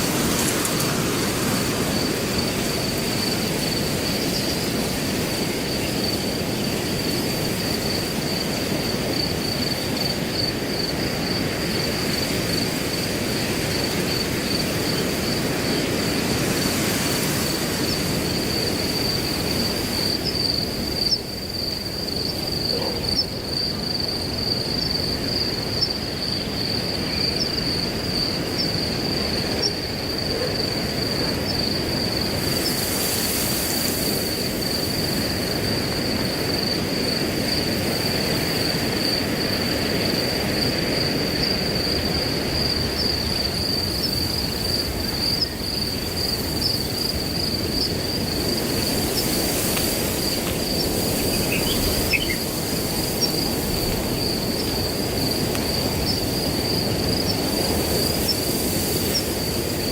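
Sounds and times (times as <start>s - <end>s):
cricket trilling: 0.0s - 59.9s
wind rushing through grass: 0.0s - 59.9s.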